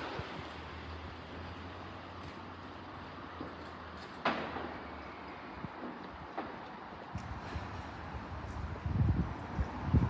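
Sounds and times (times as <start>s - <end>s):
train rumbling on tracks: 0.0s - 10.0s.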